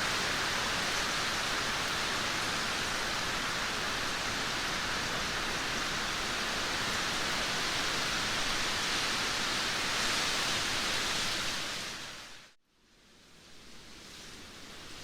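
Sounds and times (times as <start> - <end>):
heavy rain hissing: 0.0 - 12.5.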